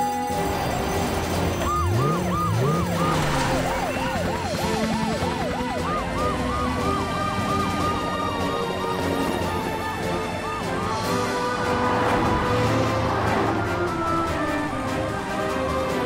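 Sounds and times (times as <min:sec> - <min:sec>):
background music: 0:00.0 - 0:16.0
cartoon sirens wailing: 0:00.0 - 0:16.0.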